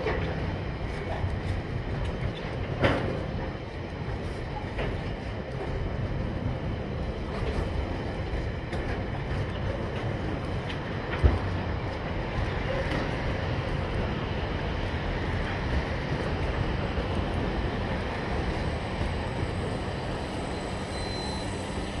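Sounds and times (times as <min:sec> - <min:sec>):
diesel locomotive running: 0:00.0 - 0:22.0
freight wagons rumbling on rails: 0:00.0 - 0:22.0.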